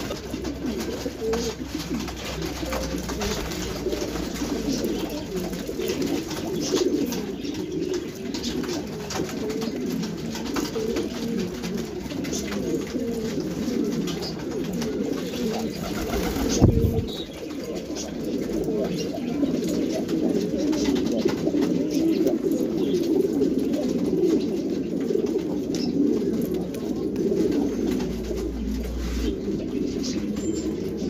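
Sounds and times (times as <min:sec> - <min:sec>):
pigeons cooing: 0:00.0 - 0:31.0.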